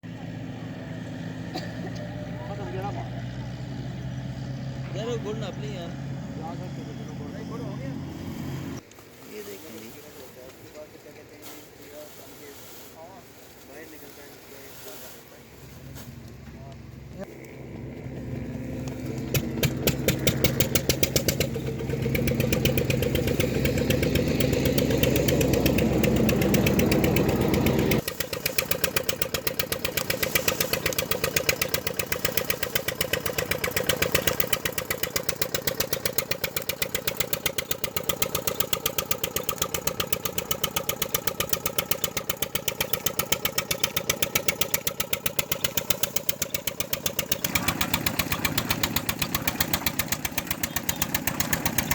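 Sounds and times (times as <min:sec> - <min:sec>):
diesel engine beating steadily: 0:00.0 - 0:08.8, 0:15.7 - 0:51.9.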